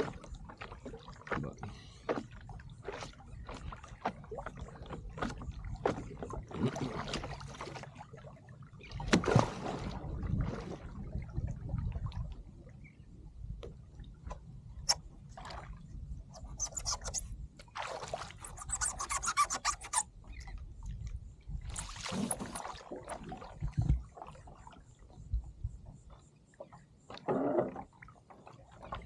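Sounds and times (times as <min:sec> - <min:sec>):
water sloshing and splashing: 0:00.0 - 0:29.0.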